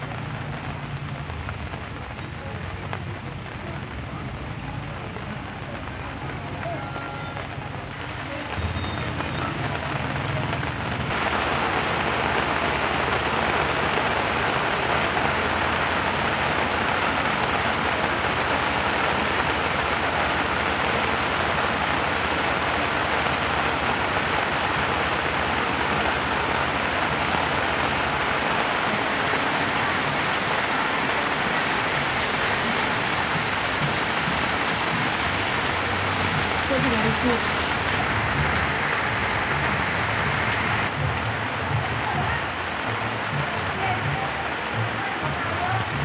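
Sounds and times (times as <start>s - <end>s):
heavy rain on pavement: 0.0s - 46.0s.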